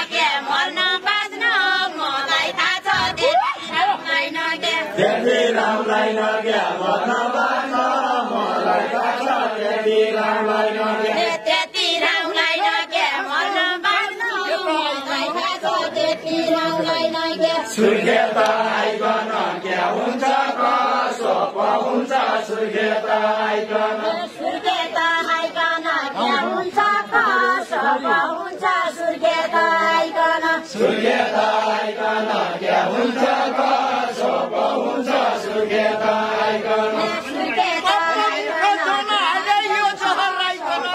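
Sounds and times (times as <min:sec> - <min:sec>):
group singing folk song: 0:00.0 - 0:40.9.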